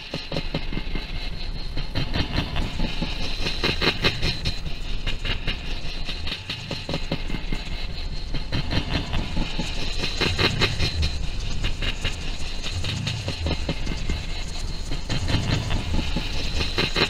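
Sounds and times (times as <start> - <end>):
high hiss: 0.0 - 17.0
low rumble: 0.5 - 17.0.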